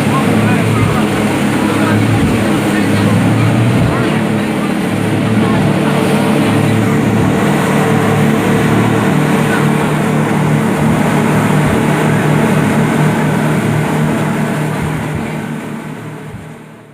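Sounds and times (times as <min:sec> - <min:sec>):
wind noise: 0:00.0 - 0:16.6
motorboat engine running: 0:00.0 - 0:16.9
water wash: 0:00.0 - 0:16.9.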